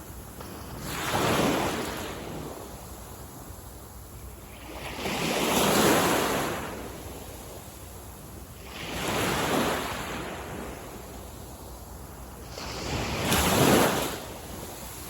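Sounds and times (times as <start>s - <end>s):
ocean waves breaking on shore: 0.0s - 3.6s, 4.4s - 15.0s.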